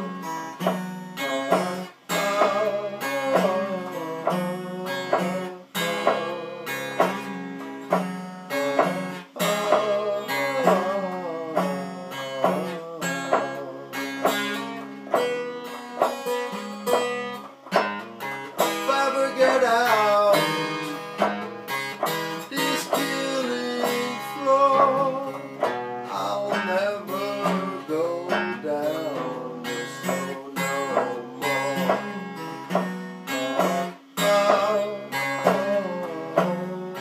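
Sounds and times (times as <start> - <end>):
acoustic guitar picking blues: 0.0 - 37.0.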